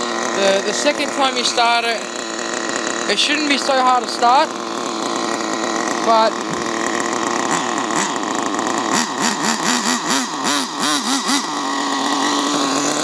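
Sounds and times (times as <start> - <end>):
rc car engine revving: 0.0 - 13.0.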